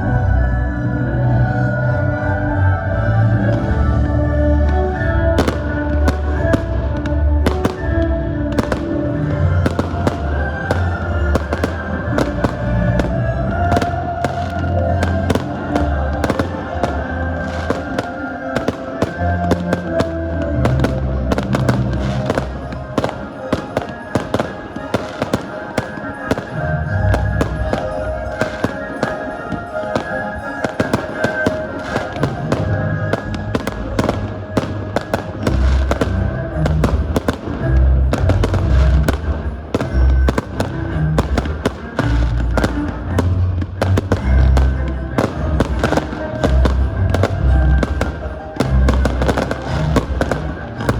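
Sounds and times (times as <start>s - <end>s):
music over loudspeakers: 0.0s - 50.9s
fireworks bangs and crackling: 3.3s - 50.9s.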